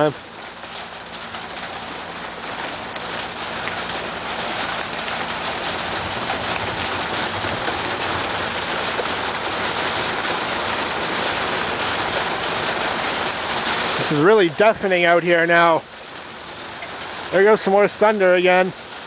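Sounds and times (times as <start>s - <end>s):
heavy rain and hail pelting: 0.0s - 19.0s.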